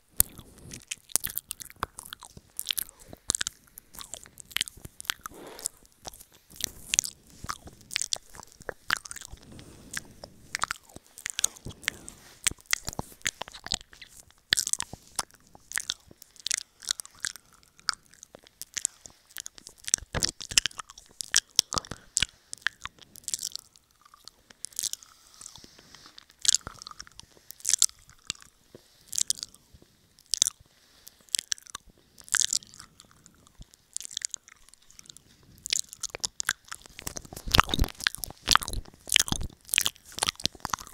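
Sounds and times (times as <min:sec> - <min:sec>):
wet mouth smacks and clicks: 0:00.2 - 0:28.5, 0:29.1 - 0:29.6, 0:30.2 - 0:40.9.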